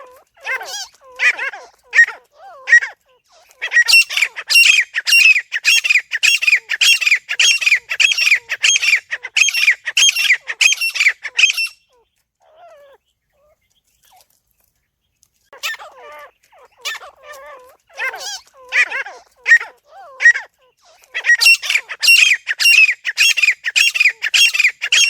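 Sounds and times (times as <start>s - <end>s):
francolin calling: 0.0s - 13.6s, 15.5s - 25.0s.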